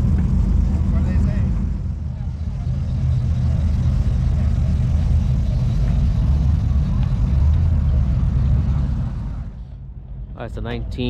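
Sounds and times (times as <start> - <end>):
engine exhaust rumble: 0.0 - 11.0.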